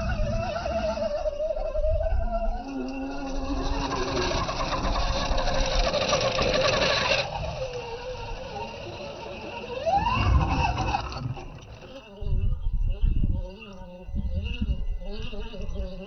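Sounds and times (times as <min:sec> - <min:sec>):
radio-controlled trucks whining: 0:00.0 - 0:16.0.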